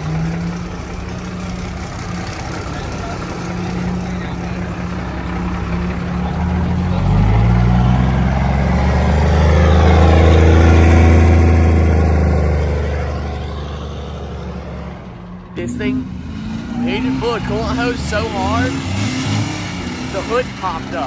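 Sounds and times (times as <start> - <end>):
diesel truck engine revving: 0.0 - 21.0.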